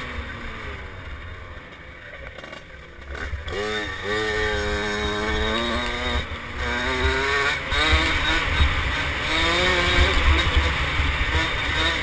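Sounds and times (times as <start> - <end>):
dirt bike engine revving: 2.4 - 12.0.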